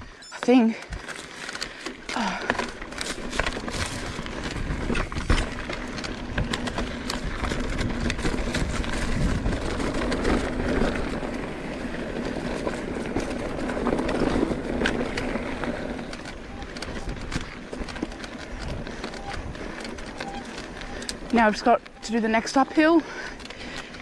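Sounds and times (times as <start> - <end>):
bike rattling and knocking: 0.0 - 24.0
bike tyre and wind noise: 0.0 - 24.0.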